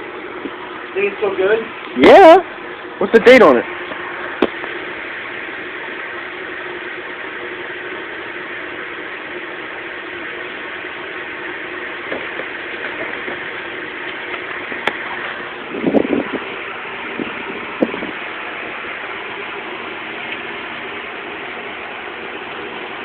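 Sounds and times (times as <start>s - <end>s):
droning hum with constant tone: 0.0s - 23.0s.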